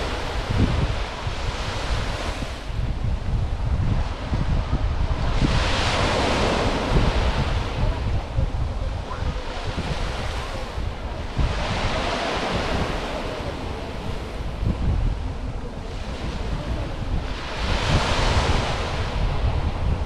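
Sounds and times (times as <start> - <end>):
waves breaking on sandy beach: 0.0 - 20.0
wind buffeting microphone: 0.0 - 20.0.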